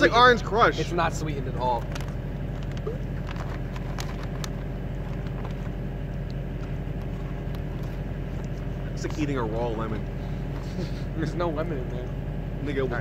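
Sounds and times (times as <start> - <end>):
low hum of machinery or traffic: 0.0 - 13.0.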